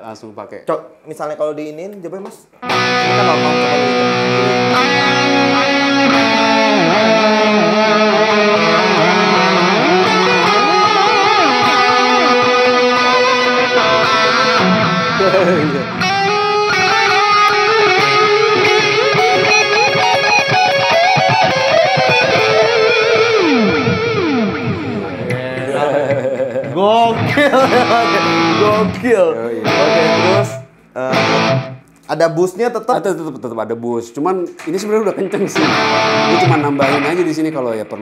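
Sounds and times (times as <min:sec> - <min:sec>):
distorted electric guitar with delay: 0:02.6 - 0:31.9, 0:34.8 - 0:38.0.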